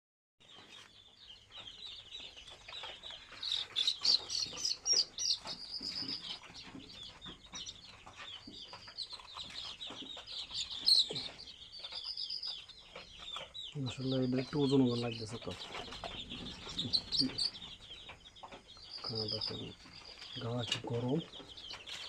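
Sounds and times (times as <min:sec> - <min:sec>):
chicks peeping: 0:00.4 - 0:22.0.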